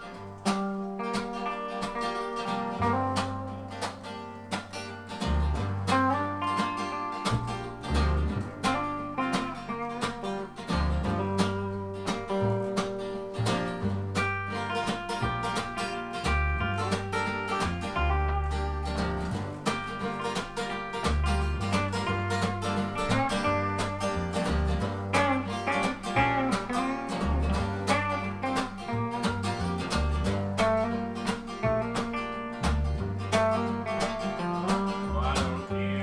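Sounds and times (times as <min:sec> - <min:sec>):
bass line: 0:00.0 - 0:36.0
drum kit: 0:00.0 - 0:36.0
electric guitar: 0:00.0 - 0:36.0
strummed acoustic guitar: 0:00.0 - 0:36.0.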